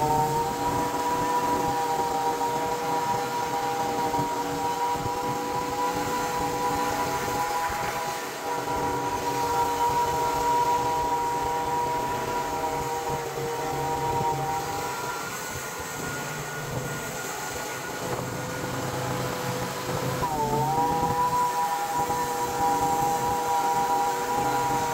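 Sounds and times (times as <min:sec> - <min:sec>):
sawmill engine running: 0:00.0 - 0:24.9.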